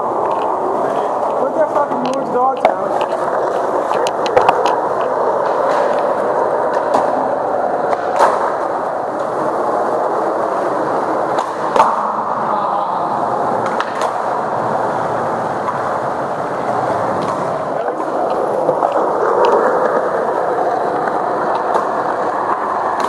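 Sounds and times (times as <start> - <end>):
skateboard clacks: 0.0 - 23.0
skateboard wheels rolling on pavement: 0.0 - 23.0.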